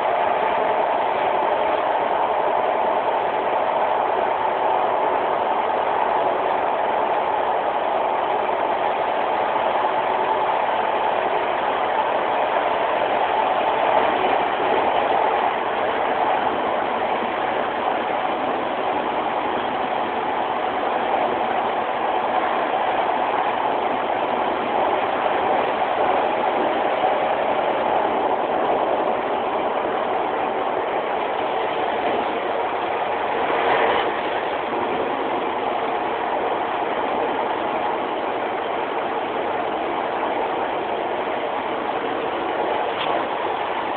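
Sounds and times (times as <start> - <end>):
train diesel engine and running gear: 0.0 - 43.9.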